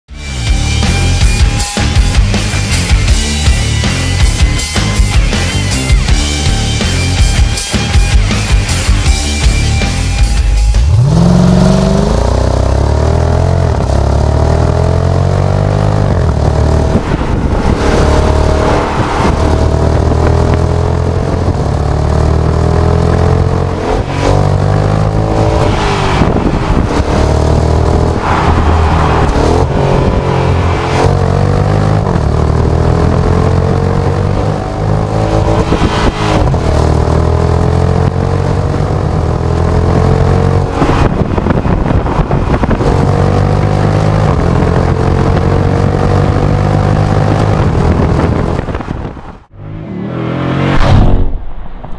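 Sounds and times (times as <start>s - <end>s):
engine and exhaust pulling hard: 0.1s - 51.9s.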